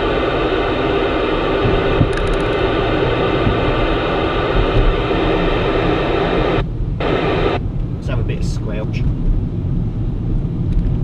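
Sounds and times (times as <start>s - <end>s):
radio static hiss: 0.0s - 9.1s
car road rumble: 0.0s - 11.0s.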